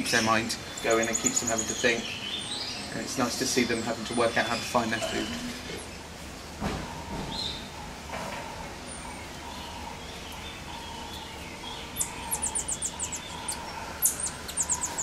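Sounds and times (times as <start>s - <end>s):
marmosets chirping: 0.0s - 6.0s, 8.8s - 15.0s.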